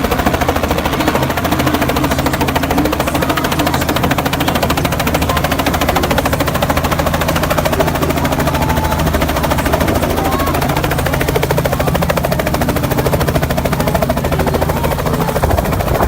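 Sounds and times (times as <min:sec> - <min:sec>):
helicopter engine drone: 0:00.0 - 0:16.0
helicopter rotor chop: 0:00.0 - 0:16.0.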